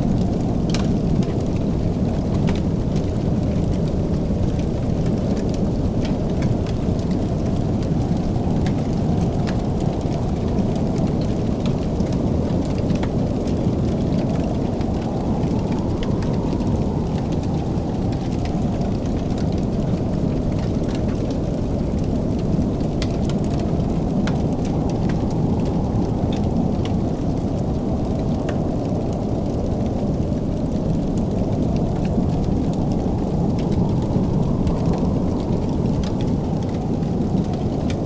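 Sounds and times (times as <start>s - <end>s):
fire pops and snaps: 0.0s - 38.0s
steady low rumble: 0.0s - 38.0s.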